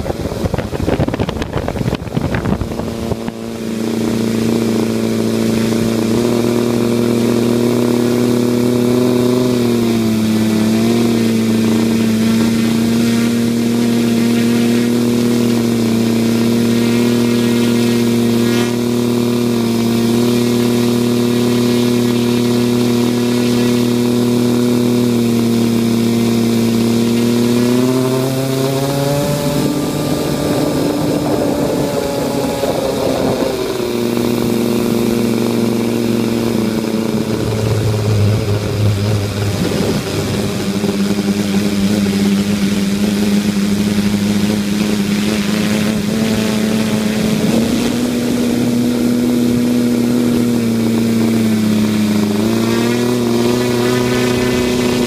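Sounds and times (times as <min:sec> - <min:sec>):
drone motors and propellers humming: 0:00.0 - 0:55.0.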